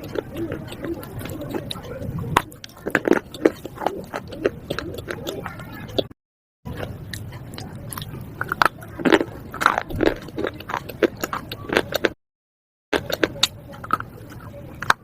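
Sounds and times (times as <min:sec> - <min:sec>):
crunching and chewing slate: 0:00.0 - 0:12.2, 0:12.9 - 0:15.0.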